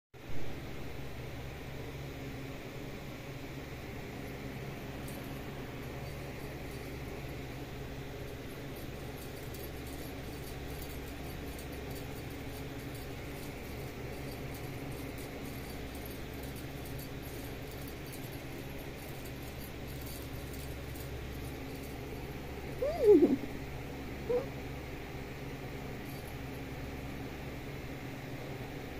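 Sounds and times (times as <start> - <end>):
constant low hum: 0.2 - 28.9.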